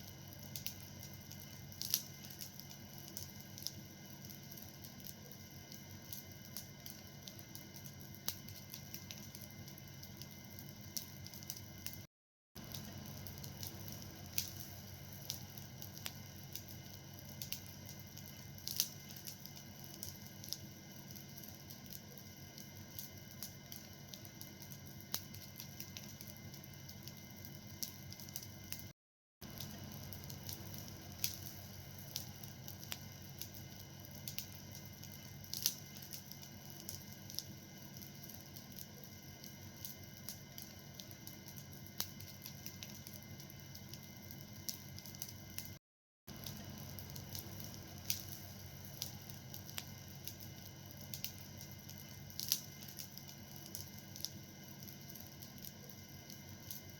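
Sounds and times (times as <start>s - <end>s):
fire crackling: 0.0s - 56.9s.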